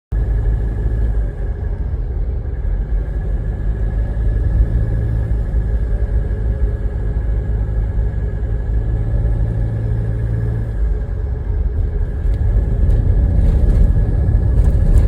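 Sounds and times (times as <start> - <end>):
van engine and road noise: 0.1 - 15.0.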